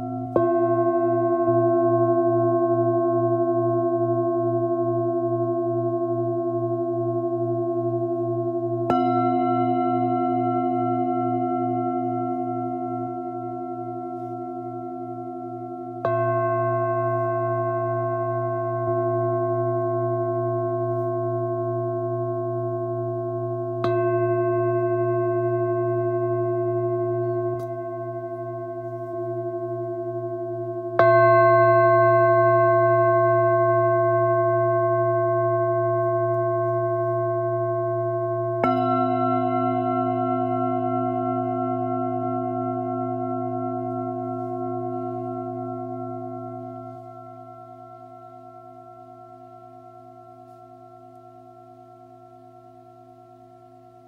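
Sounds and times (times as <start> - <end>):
singing bowls ringing: 0.0 - 54.0.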